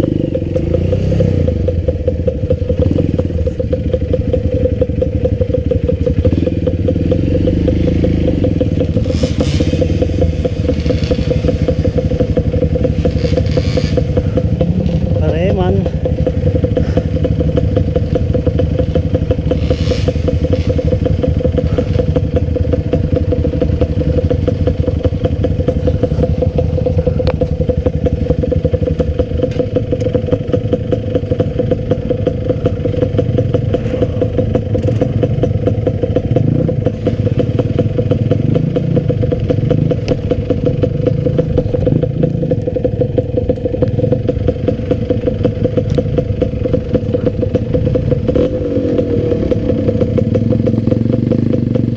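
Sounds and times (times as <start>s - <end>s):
dirt bike engine droning: 0.0s - 51.9s.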